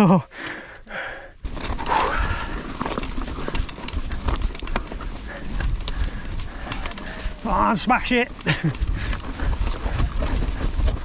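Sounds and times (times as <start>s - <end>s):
bike clattering on rocks: 1.5s - 11.0s.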